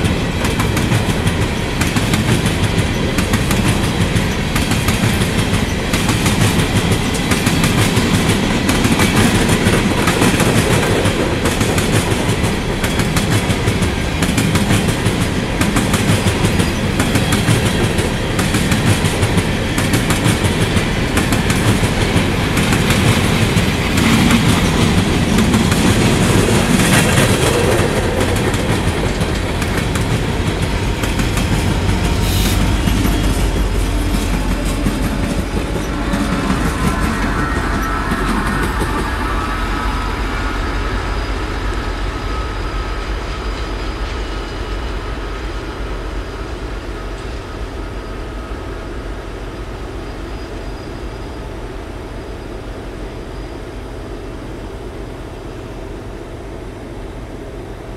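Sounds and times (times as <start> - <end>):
train wheels clattering: 0.0 - 48.7
locomotive high whine: 0.0 - 57.9.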